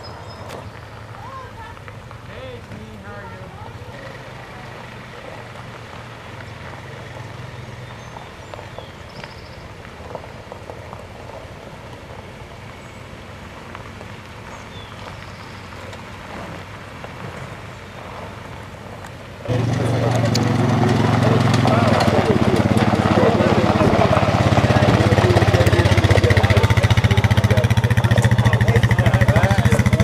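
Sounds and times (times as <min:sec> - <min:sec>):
tyres crackling on gravel: 0:00.0 - 0:30.0
vehicle engine hum: 0:00.0 - 0:30.0.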